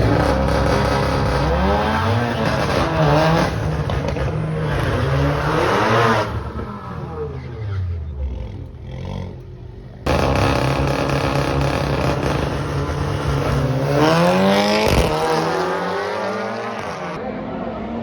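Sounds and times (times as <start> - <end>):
race car accelerating: 0.0 - 17.4.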